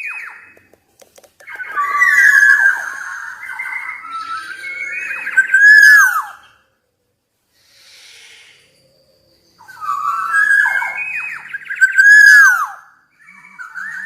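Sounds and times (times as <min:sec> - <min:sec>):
bird singing fluty whistles: 0:00.0 - 0:00.6, 0:01.5 - 0:06.7, 0:07.6 - 0:14.0.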